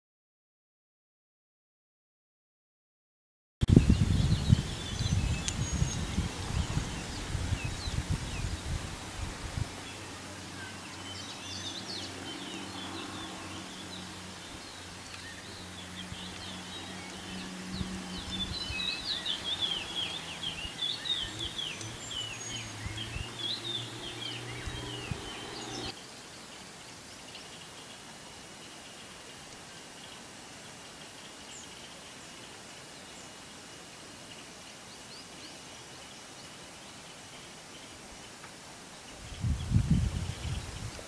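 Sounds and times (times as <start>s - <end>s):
small birds chirping: 3.7s - 41.0s.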